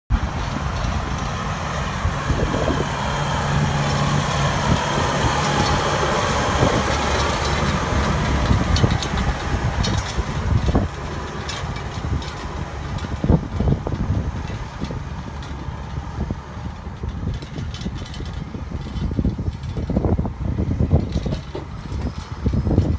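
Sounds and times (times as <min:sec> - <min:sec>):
rushing and crackling soil: 0:00.1 - 0:22.9
tractor diesel engine running: 0:00.1 - 0:22.9.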